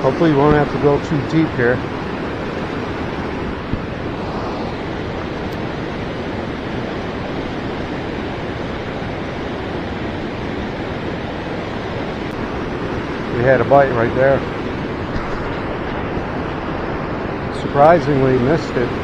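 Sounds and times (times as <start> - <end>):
river rapids rushing: 0.0 - 19.0.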